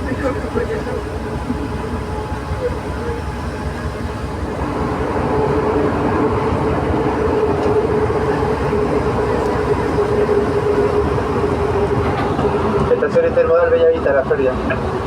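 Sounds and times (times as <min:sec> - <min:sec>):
train rumble: 0:00.0 - 0:15.0
train whine: 0:00.0 - 0:15.0.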